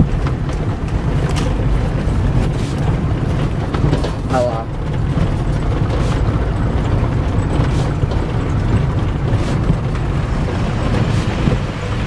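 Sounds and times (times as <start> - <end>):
car engine and tyres rumble: 0.0 - 12.0.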